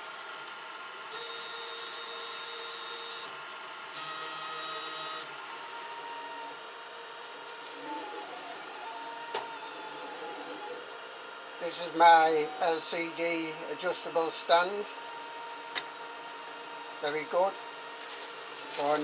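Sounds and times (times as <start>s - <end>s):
stepper motors whining: 1.0s - 19.0s.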